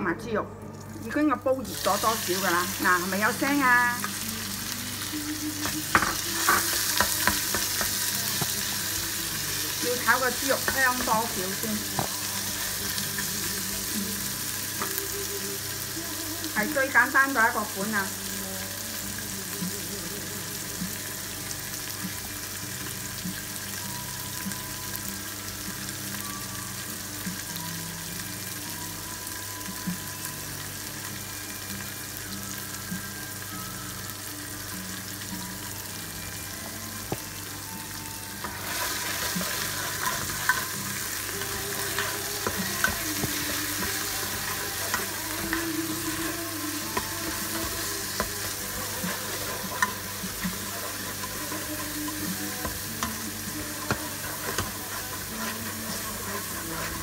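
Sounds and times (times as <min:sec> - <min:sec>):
meat sizzling in hot oil: 0:01.0 - 0:57.0.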